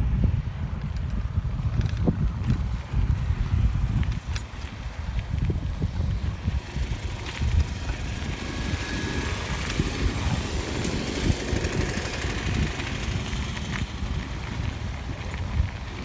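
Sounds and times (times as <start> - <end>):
faint road and traffic noise: 0.0 - 16.0
wind buffeting microphone: 0.0 - 16.0.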